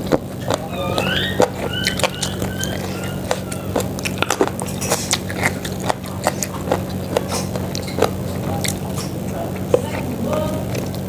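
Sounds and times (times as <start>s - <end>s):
chewing and wet mouth smacks: 0.0s - 11.0s.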